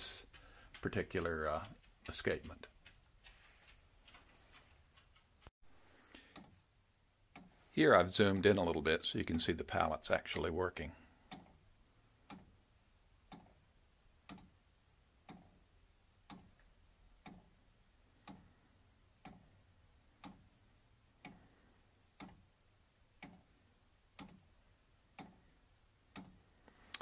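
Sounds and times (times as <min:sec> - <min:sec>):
wooden clock ticking faintly: 0:00.0 - 0:27.0.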